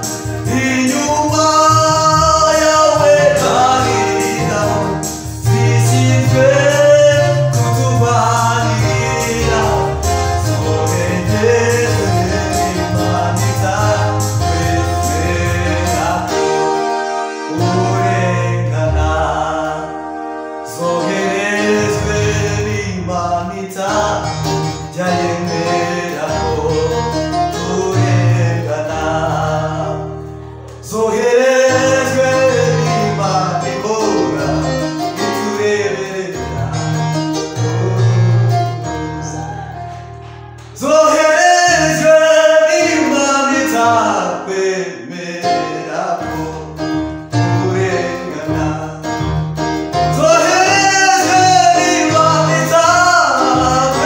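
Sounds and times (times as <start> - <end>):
men singing gospel song: 0.0 - 39.9, 40.7 - 49.3, 50.0 - 54.0
electronic keyboard: 0.0 - 54.0.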